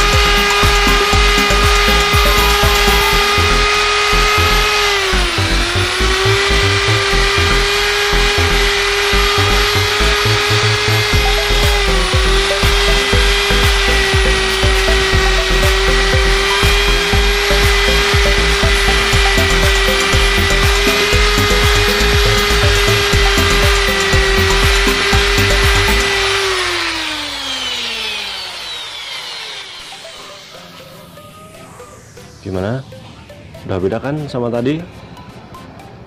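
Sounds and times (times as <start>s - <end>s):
polishing pad rubbing metal: 0.0s - 31.2s
electric drill motor whine: 0.0s - 33.5s.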